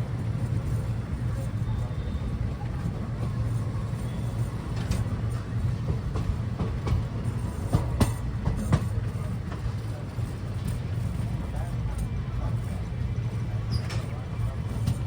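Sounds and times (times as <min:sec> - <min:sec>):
train humming: 0:00.0 - 0:15.0.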